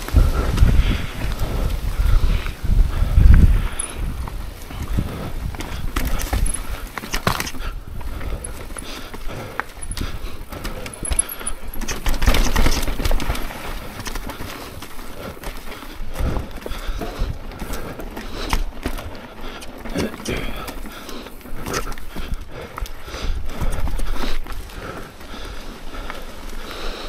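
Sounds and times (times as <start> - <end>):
bike knocking and rattling: 0.0 - 27.0
bike tyres clattering over rocks: 0.0 - 27.0.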